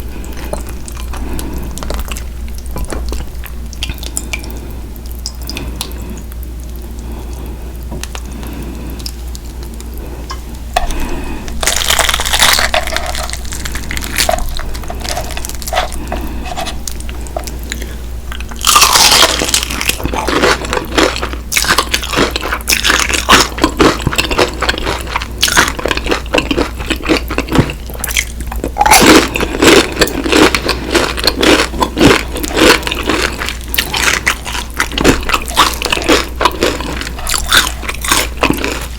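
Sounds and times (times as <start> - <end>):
crunchy chicken chewing: 0.0 - 38.9.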